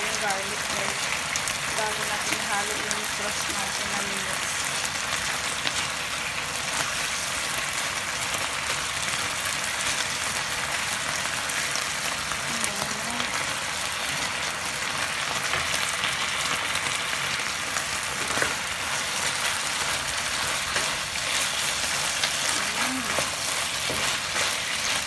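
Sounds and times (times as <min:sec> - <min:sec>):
meat and garlic sizzling in oil: 0:00.0 - 0:25.0.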